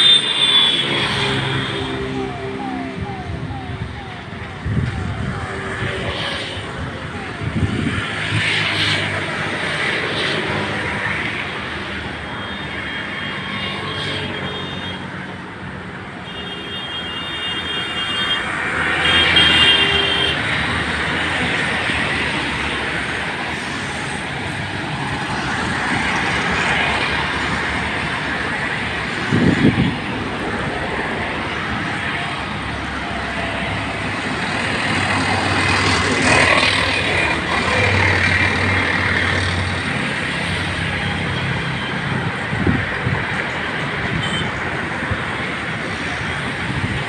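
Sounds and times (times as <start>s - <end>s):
traffic hum: 0.0s - 47.0s.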